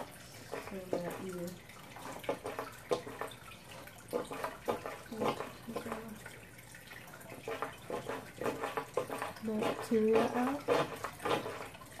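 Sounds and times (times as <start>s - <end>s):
siphon drawing water with gurgles: 0.0s - 12.0s.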